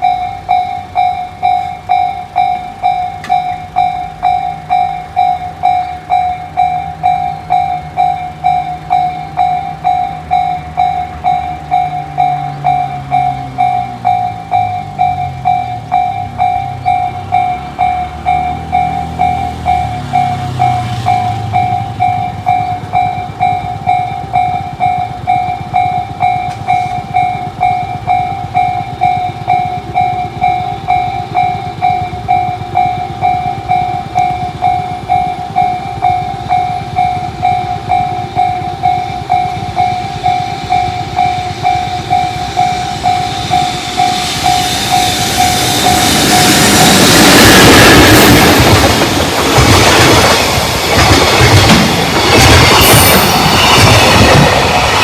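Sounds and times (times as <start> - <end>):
freight train passing: 0.0 - 55.0
level crossing alarm ringing: 0.0 - 55.0.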